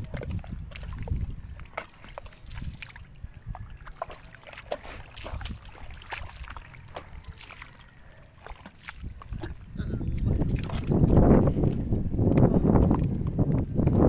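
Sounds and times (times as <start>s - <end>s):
footsteps squelching in mud: 0.0s - 14.0s.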